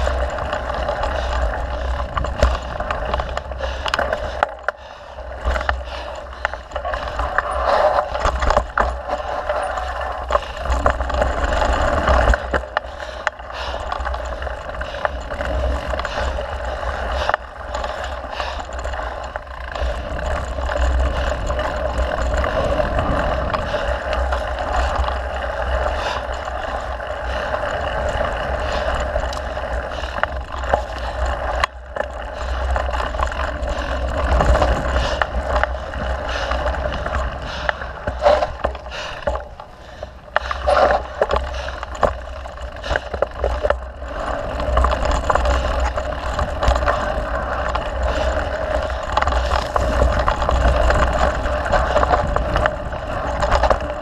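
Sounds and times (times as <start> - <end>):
bike rattling over bumps: 0.0 - 54.0
bike riding noise: 0.0 - 54.0.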